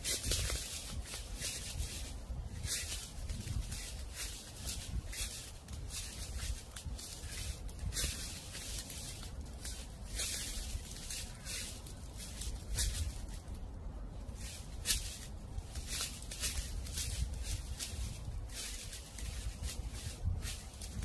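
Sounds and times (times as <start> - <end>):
dry leaves crunching: 0.0 - 21.0
low wind rumble: 0.0 - 21.0.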